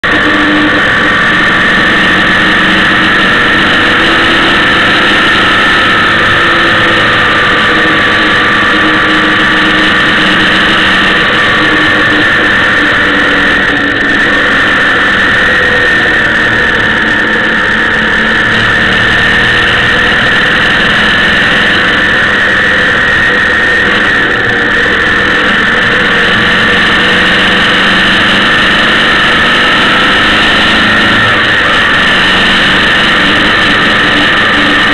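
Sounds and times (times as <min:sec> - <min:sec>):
high whine: 0:00.0 - 0:34.9
motorcycle engine running: 0:00.0 - 0:34.9
road and wind noise: 0:00.0 - 0:34.9.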